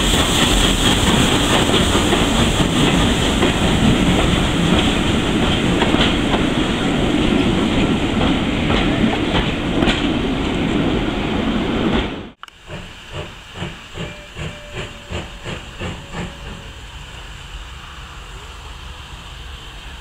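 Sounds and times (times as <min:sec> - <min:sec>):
moving train rushing: 0:00.0 - 0:20.0
steam locomotive exhaust beats: 0:00.0 - 0:20.0.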